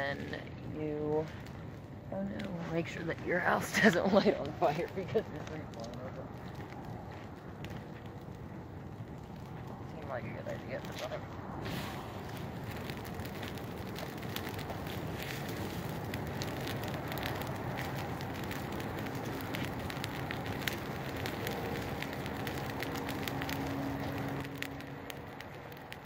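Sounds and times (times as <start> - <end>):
bonfire crackling and popping: 0.0 - 26.0.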